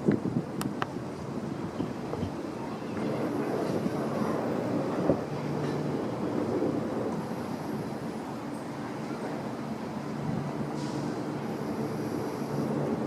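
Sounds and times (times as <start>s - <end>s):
faint engine hum: 0.0s - 13.0s.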